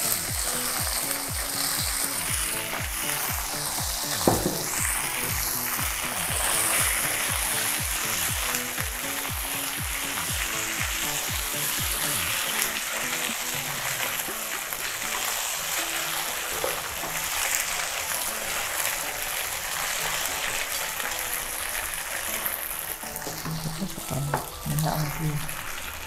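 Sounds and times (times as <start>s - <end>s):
background music: 0.0s - 26.0s
food sizzling in frying pan: 0.0s - 26.0s.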